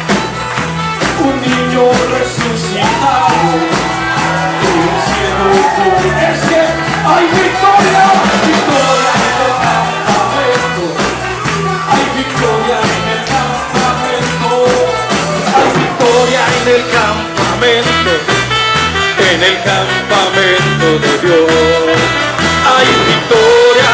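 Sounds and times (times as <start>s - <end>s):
bass and drums: 0.0s - 23.9s
voices singing: 1.0s - 23.9s.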